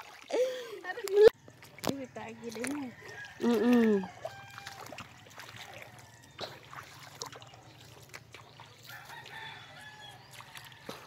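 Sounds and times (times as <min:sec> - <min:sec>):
feet splashing in shallow water: 0:00.0 - 0:11.0.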